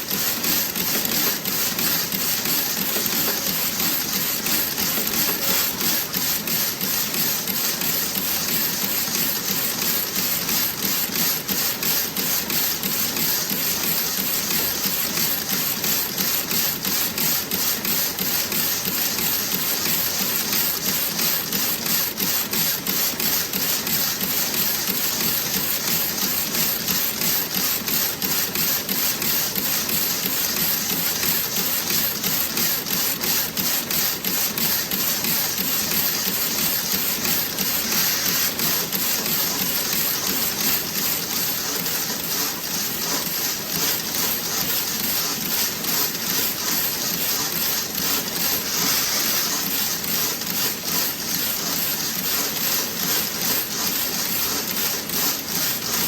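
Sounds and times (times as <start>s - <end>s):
knitting machine clattering: 0.0s - 56.0s.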